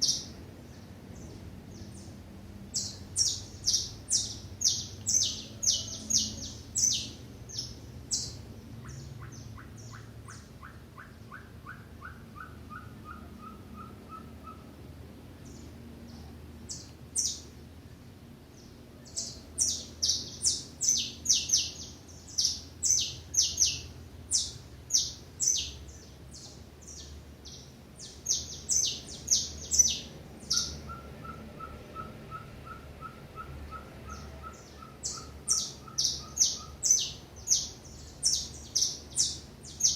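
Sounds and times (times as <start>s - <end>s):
lower run of bird notes: 0.0s - 39.9s
songbirds chirping: 0.0s - 39.9s.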